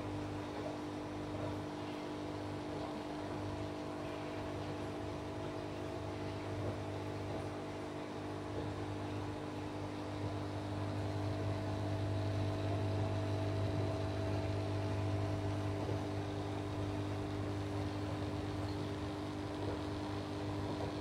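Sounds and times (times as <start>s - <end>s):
aquarium equipment humming: 0.0s - 21.0s.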